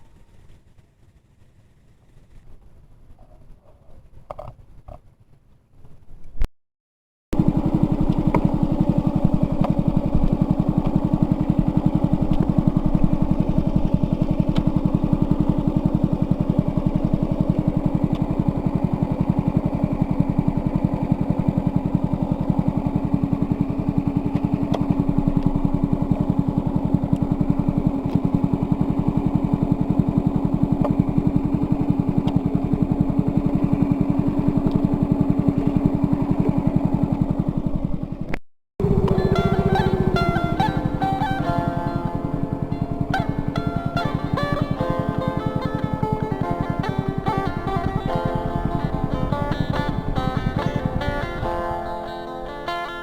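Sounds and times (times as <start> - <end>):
small engine running: 7.4 - 53.0.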